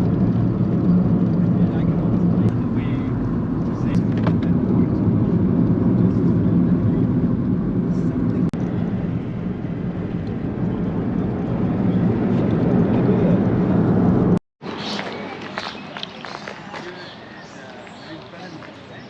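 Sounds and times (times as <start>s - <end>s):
car road and engine rumble: 0.0s - 16.6s.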